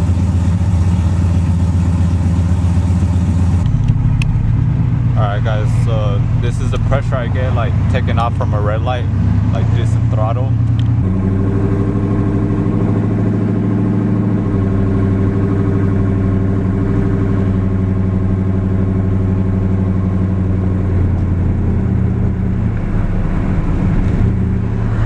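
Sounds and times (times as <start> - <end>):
pickup engine pulling away: 0.0 - 25.0.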